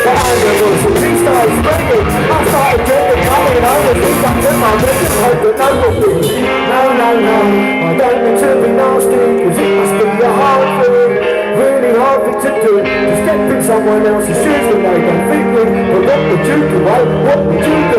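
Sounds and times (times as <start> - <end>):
rock band playing: 0.0 - 17.9.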